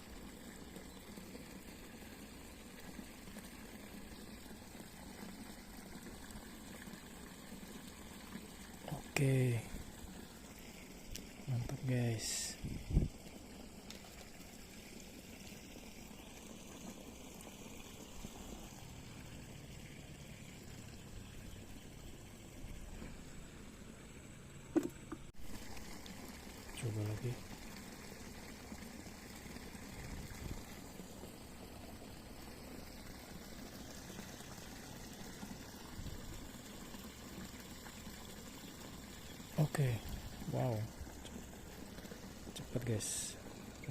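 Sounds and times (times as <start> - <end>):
faint stream water flowing: 0.0 - 43.9.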